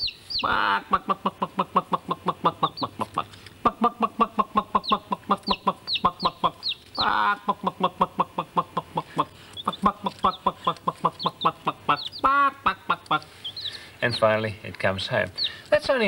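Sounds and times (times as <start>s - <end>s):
chick peeping: 0.0s - 16.0s
man imitating hen clucks: 0.4s - 13.3s.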